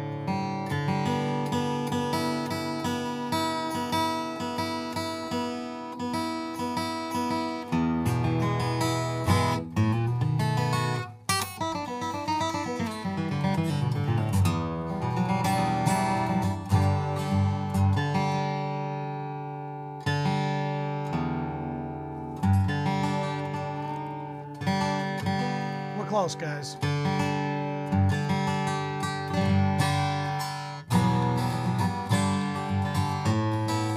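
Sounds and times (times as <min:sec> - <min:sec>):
acoustic guitar strummed and picked: 0:00.0 - 0:33.9.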